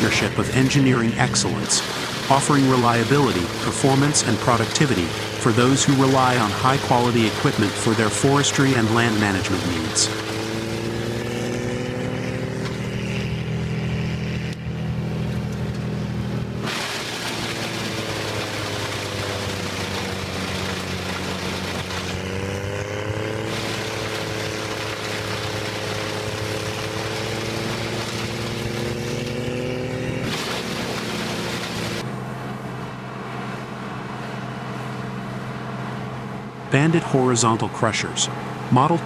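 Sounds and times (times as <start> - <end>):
heavy machinery engine running: 0.0 - 39.0.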